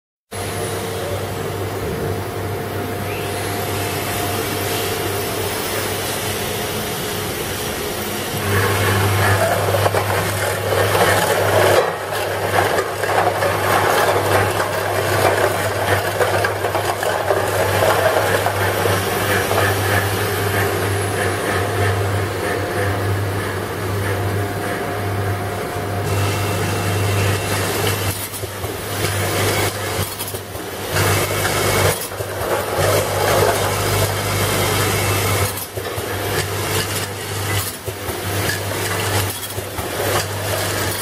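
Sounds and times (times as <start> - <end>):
machine hum: 0.4 - 41.0.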